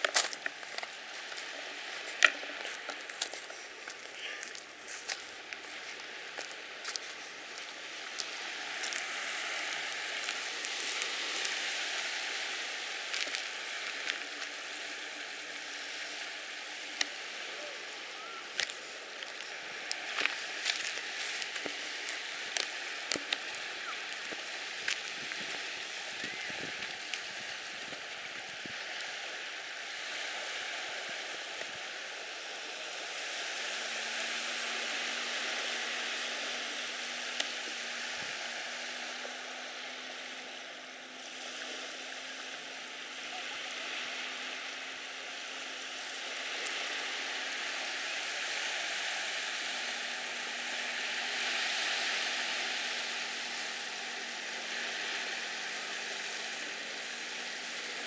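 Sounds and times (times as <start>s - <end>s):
lake waves washing on shore: 0.0s - 58.0s.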